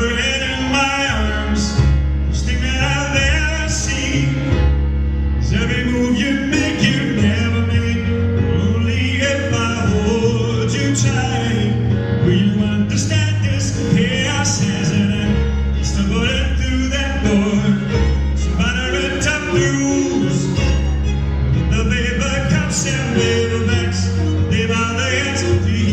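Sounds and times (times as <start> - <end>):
man singing: 0.0 - 4.8, 5.4 - 25.9
string arrangement with bass: 0.0 - 25.9.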